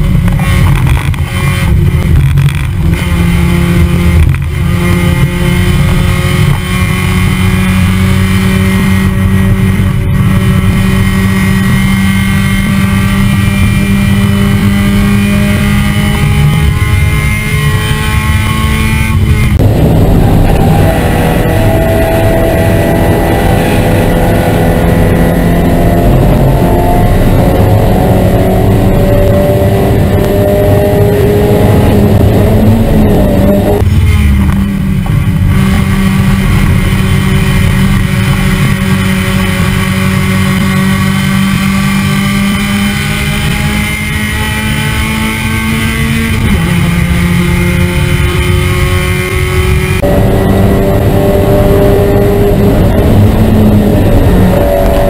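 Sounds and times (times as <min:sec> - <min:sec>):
race car engine at speed: 0:00.0 - 0:55.0
wind and road noise: 0:00.0 - 0:55.0.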